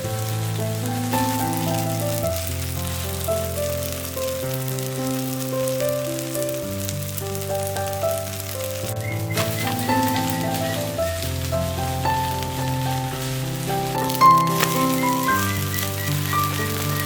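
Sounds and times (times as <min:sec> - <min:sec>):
pancake sizzling in oil: 0:00.0 - 0:17.0
slow melodic background music: 0:00.0 - 0:17.0.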